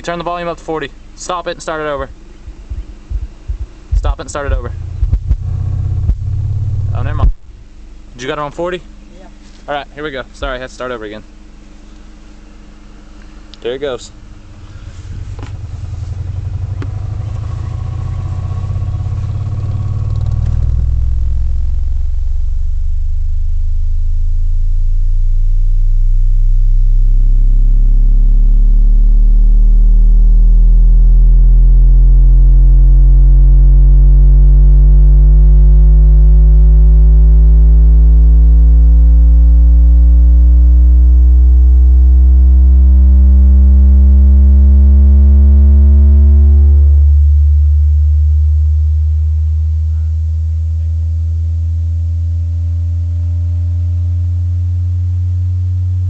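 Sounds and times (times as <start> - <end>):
loud subwoofer bass test tone: 0.0 - 56.0.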